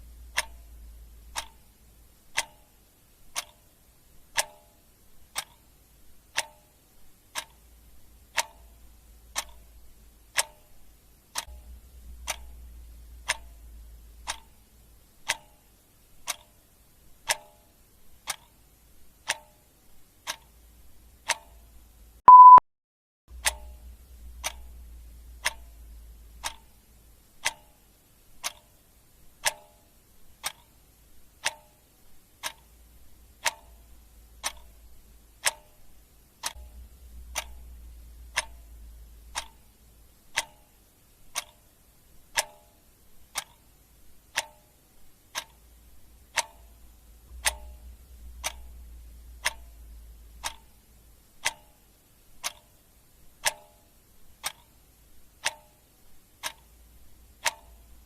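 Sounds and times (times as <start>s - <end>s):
clock ticking: 0.0s - 22.6s, 23.3s - 58.0s.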